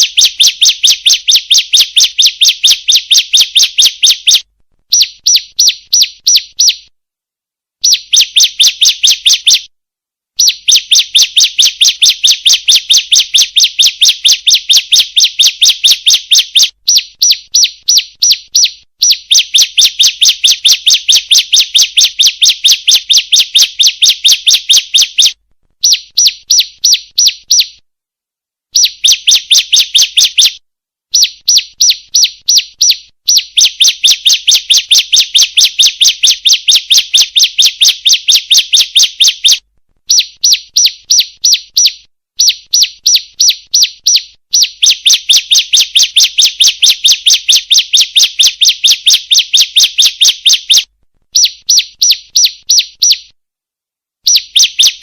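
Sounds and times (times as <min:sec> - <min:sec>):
bird sharp high chirps: 0:00.0 - 0:06.9, 0:07.8 - 0:09.7, 0:10.4 - 0:27.8, 0:28.7 - 0:53.4, 0:54.2 - 0:55.0.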